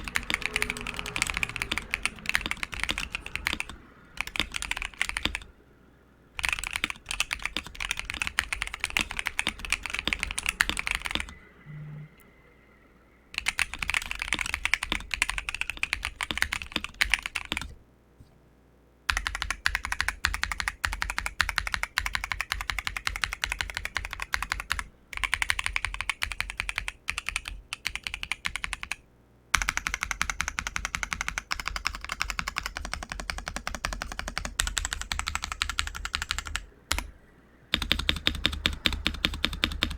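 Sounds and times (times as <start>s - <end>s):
mechanical keyboard typing: 0.0s - 5.5s, 6.4s - 11.4s, 13.4s - 17.8s, 19.1s - 29.0s, 29.6s - 39.9s.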